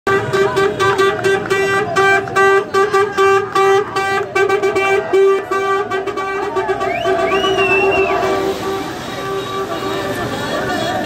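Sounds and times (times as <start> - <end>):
vehicle horn honking: 0.1 - 11.0.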